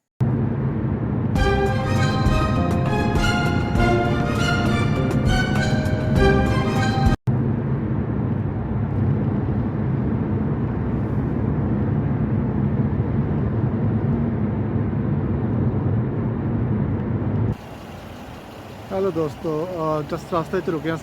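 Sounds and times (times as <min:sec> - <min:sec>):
car road and engine noise: 0:00.2 - 0:21.0.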